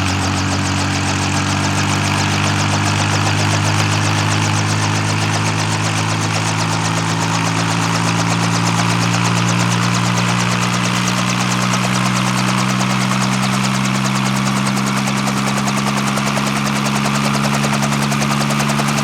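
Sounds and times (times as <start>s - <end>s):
helicopter engine hum: 0.0s - 19.0s.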